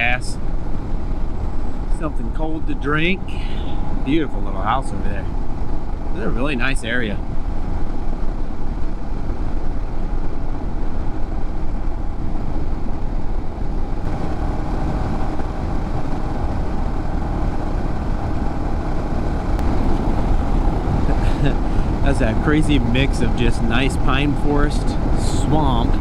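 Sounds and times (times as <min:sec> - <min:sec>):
motorcycle engine drone: 0:00.0 - 0:26.0
wind and road noise rumble: 0:00.0 - 0:26.0.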